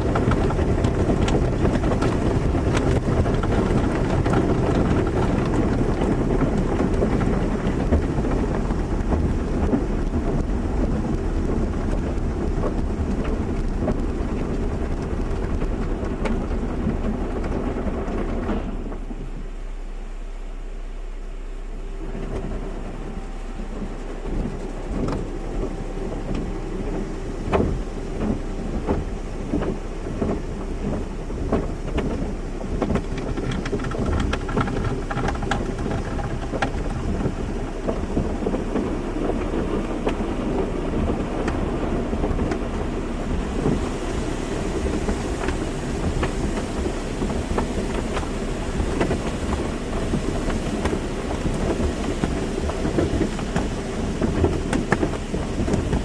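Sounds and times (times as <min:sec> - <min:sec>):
low machinery hum: 0:00.0 - 0:56.0
water spray drumming on car: 0:00.0 - 0:56.0.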